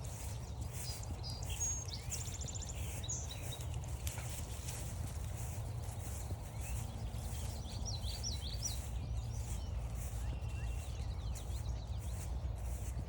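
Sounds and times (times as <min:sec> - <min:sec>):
footsteps on forest trail: 0:00.0 - 0:13.0
songbird chirping: 0:00.0 - 0:13.0.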